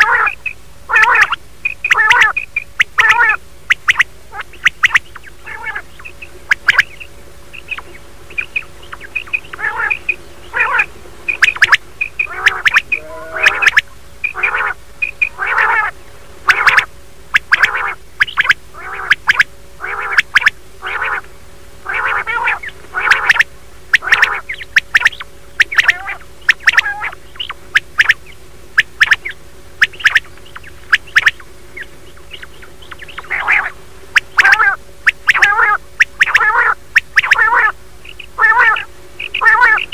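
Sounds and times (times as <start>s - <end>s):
faint steady hum: 0.0s - 39.9s
quail calling: 0.0s - 39.9s.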